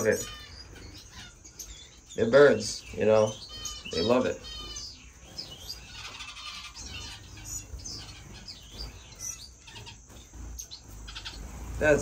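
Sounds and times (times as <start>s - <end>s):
finches chirping and twittering: 0.0s - 12.0s.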